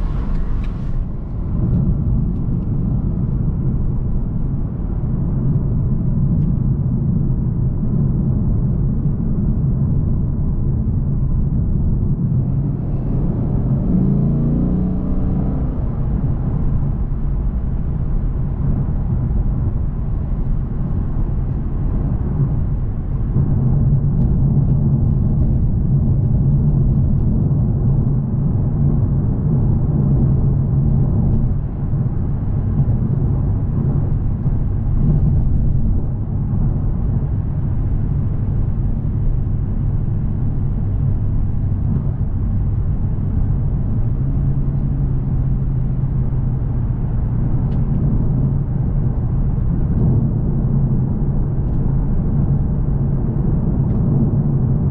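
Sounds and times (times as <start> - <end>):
car engine cruising: 0.0 - 6.9, 10.6 - 54.9
tyre and road noise: 0.0 - 7.3, 9.0 - 54.9.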